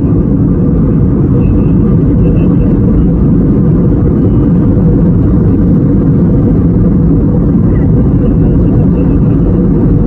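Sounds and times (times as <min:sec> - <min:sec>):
jet airliner cabin roar: 0:00.0 - 0:10.0.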